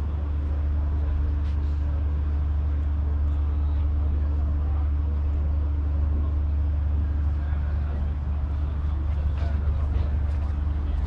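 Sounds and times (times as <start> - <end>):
constant hum: 0.0 - 11.0
low mechanical drone: 0.0 - 11.0.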